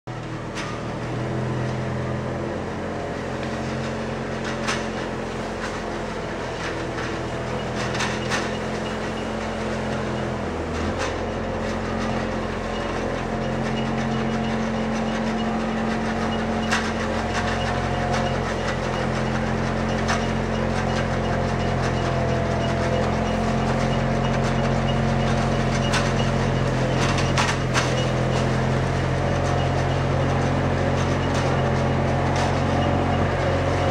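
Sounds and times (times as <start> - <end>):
loader engine running: 0.1 - 33.9.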